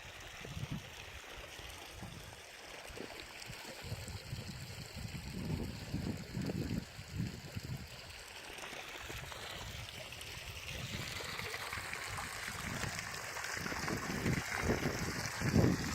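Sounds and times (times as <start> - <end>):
rushing rainwater: 0.0 - 15.9.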